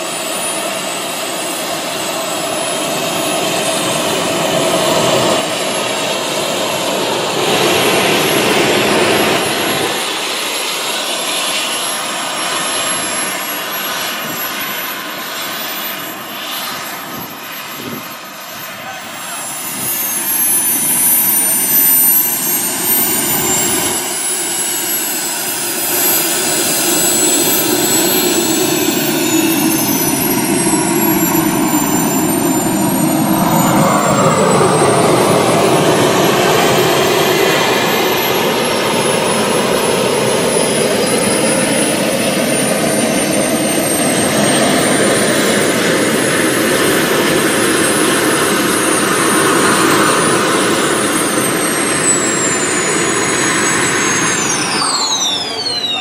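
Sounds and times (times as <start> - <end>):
jet turbine whine: 0.0 - 56.0
rush of jet exhaust: 0.0 - 56.0.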